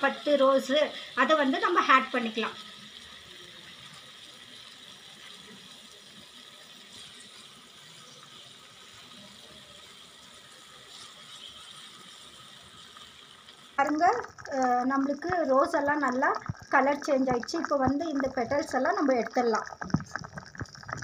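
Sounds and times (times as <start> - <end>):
water boiling in a pot: 0.0 - 21.0.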